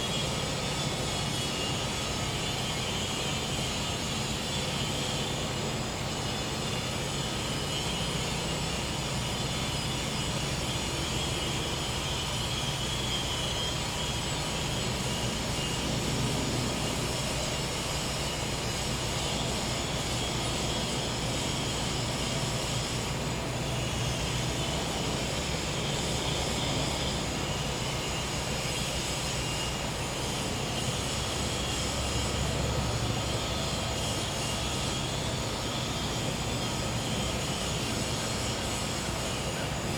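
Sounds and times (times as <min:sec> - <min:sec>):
crickets and cicadas buzzing: 0:00.0 - 0:39.9.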